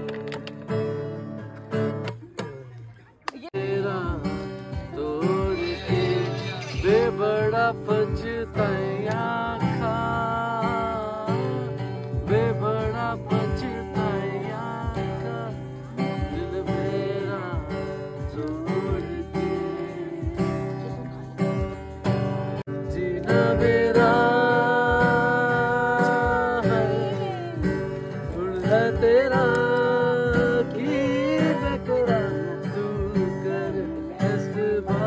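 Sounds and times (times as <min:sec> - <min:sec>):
acoustic guitar strumming: 0:00.0 - 0:35.0
person singing: 0:02.4 - 0:21.7, 0:22.7 - 0:35.0.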